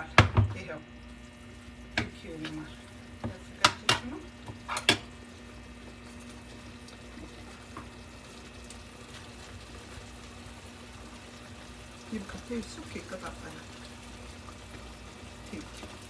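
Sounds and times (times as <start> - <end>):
low simmering hiss: 0.0 - 16.0.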